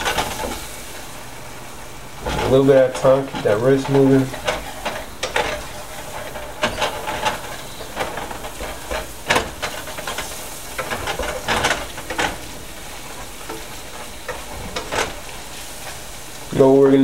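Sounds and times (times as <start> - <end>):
whisk scraping a frying pan: 0.0 - 1.2, 2.1 - 16.6
onions and butter sizzling: 0.0 - 17.0.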